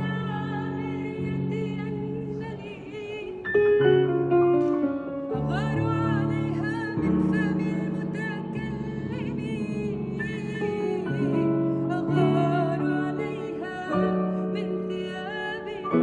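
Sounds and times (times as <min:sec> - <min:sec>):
person singing with vibrato: 0:00.0 - 0:03.7, 0:05.3 - 0:16.0.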